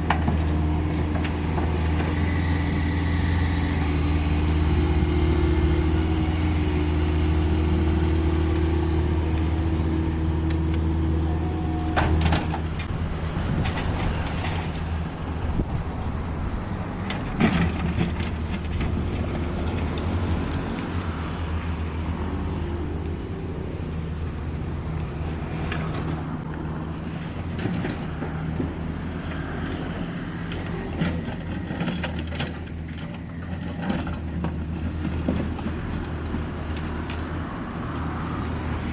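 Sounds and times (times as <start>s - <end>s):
knocks and clatter of soil: 0.0s - 2.6s, 3.8s - 16.2s, 16.9s - 21.5s, 25.4s - 38.9s
engine whine: 0.0s - 38.9s
excavator diesel engine running: 0.0s - 38.9s.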